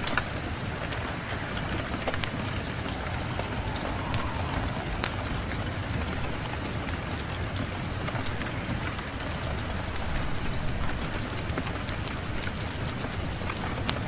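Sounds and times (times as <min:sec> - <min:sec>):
low rush of wind: 0:00.0 - 0:14.0.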